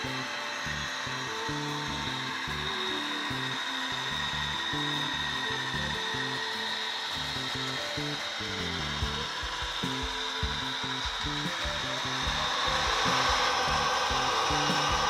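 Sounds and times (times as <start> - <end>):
background music with bass line: 0.0 - 15.0
model train whine and rolling: 0.0 - 15.0.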